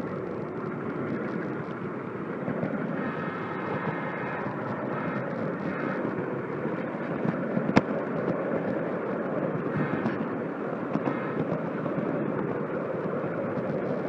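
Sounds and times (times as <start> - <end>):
model train rumbling on track: 0.0 - 14.0.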